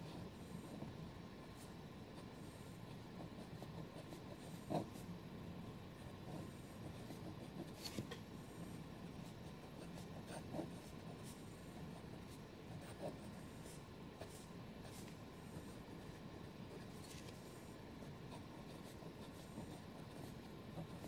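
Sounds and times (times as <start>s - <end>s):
fountain pen scratching on paper: 0.0s - 1.0s, 1.6s - 5.1s, 6.0s - 21.0s.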